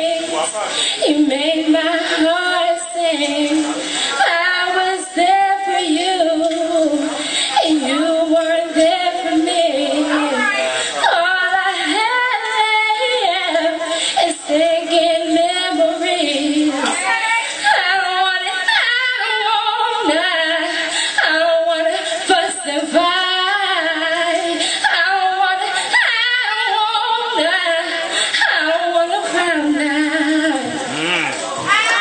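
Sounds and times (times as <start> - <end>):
woman singing into a microphone: 0.0 - 30.9.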